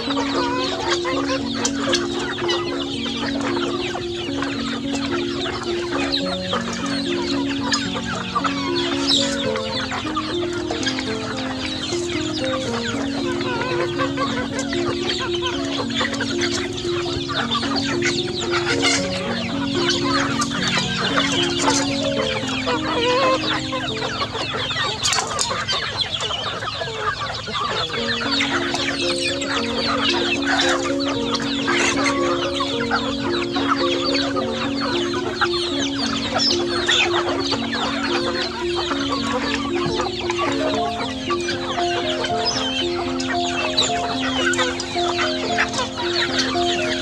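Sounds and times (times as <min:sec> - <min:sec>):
background tune of held notes: 0:00.0 - 0:47.0
chickens clucking: 0:00.0 - 0:47.0
chicks peeping: 0:00.0 - 0:47.0.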